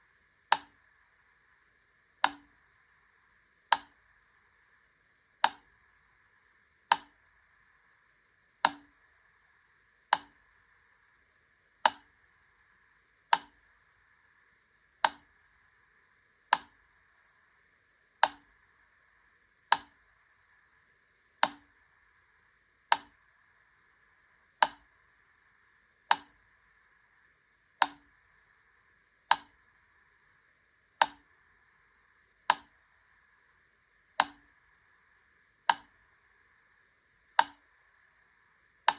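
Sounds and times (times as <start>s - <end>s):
faint steady hiss: 0.0s - 38.9s.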